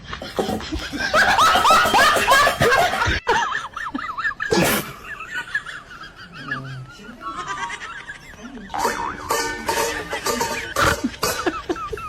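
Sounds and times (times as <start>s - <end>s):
high-pitched laughter: 0.0s - 12.0s.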